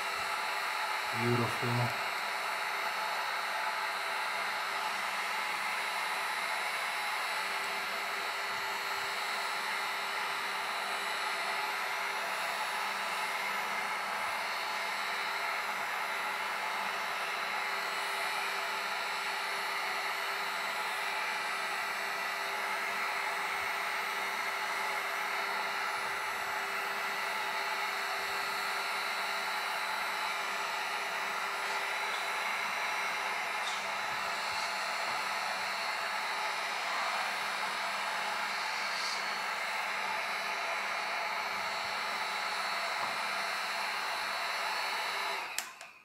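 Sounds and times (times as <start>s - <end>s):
heat gun blowing air: 0.0s - 46.0s.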